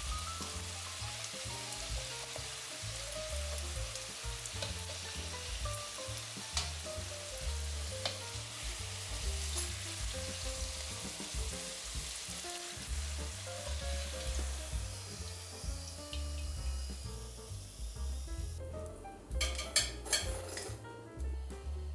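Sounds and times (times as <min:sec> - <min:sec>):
oil sizzling in a pan: 0:00.0 - 0:20.6
background music: 0:00.0 - 0:21.9.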